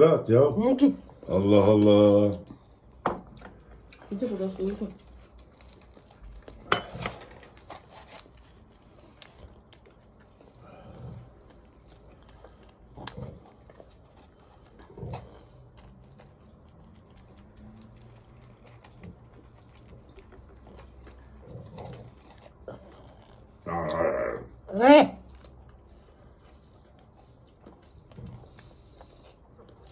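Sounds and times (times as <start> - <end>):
man chewing: 1.6 - 4.1, 5.0 - 29.9.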